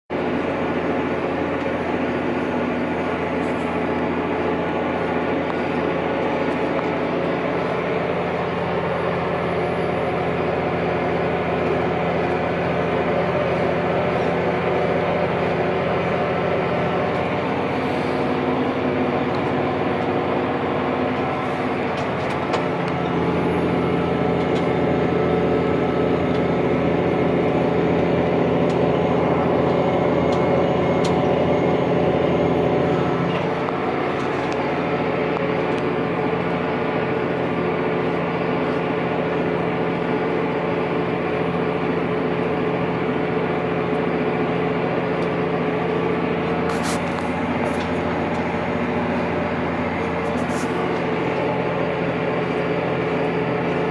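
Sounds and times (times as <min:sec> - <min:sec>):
tractor diesel engine: 0:00.1 - 0:53.9.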